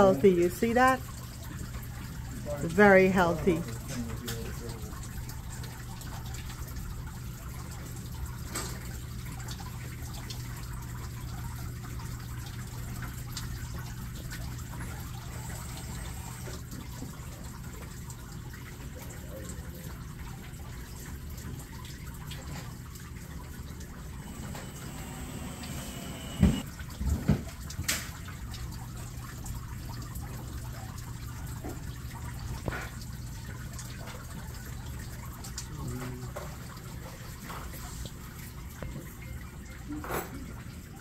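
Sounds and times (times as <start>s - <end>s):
water trickling and dripping: 0.0s - 26.0s, 26.6s - 41.0s.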